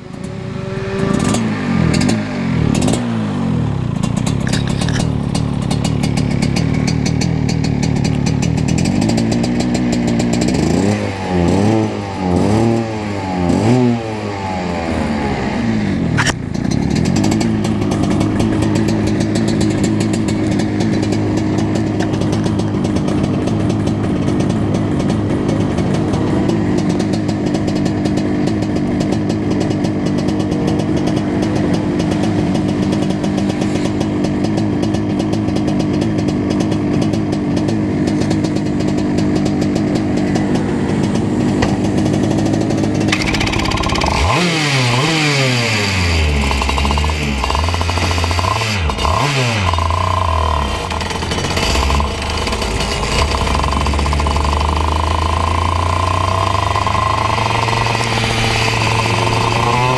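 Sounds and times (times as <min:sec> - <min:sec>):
kart engine idling and revving: 0:00.0 - 0:59.9.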